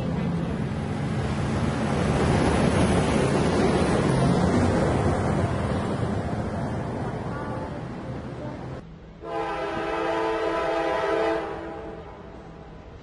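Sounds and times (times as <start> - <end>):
train passing on rails: 0.0 - 13.0.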